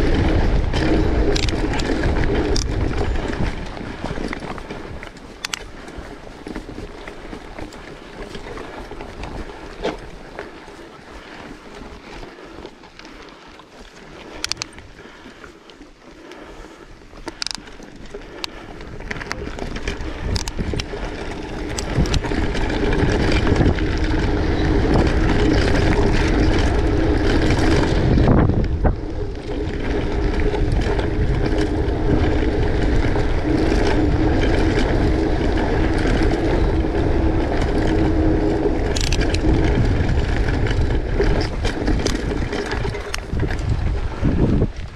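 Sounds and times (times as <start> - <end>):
rolling rumble on track: 0.0 - 13.4, 17.3 - 44.9
wind buffeting microphone: 0.0 - 13.4, 16.3 - 44.9.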